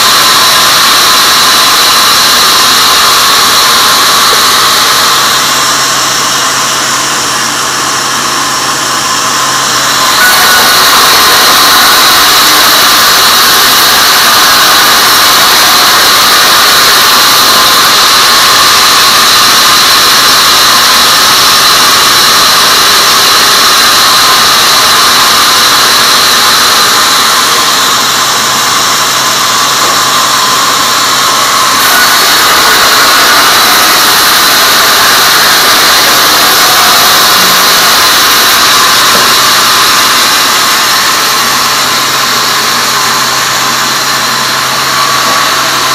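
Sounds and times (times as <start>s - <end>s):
band saw whine: 0.0s - 45.9s.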